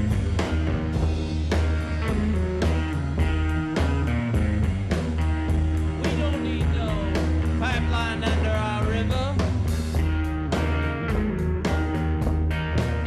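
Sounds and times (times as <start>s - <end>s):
double bass: 0.0s - 13.0s
drums keeping a steady beat: 0.0s - 13.0s
electric guitar with bent notes: 0.0s - 13.0s.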